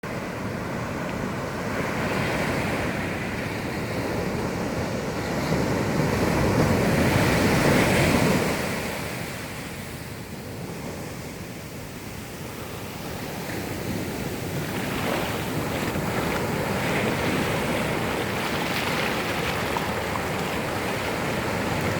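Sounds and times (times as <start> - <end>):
wind noise on microphone: 0.0 - 21.9
sea waves breaking on beach: 0.1 - 21.9.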